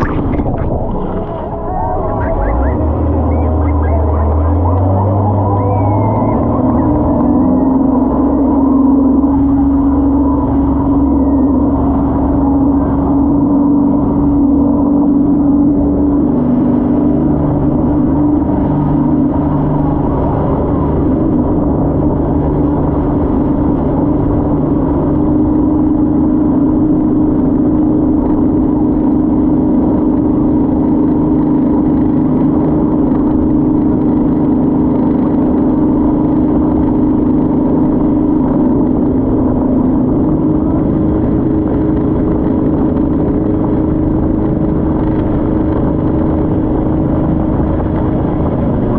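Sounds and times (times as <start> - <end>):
motorboat engine droning: 0.0 - 48.9.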